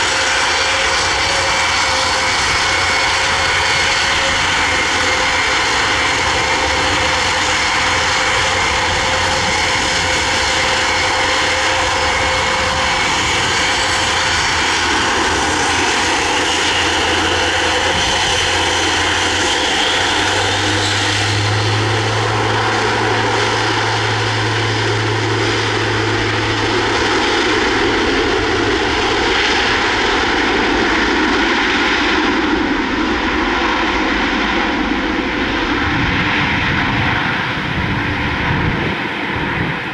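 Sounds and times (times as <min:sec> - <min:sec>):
deep low drone: 0:00.0 - 0:39.9
turboprop engines droning with whine: 0:00.0 - 0:39.9.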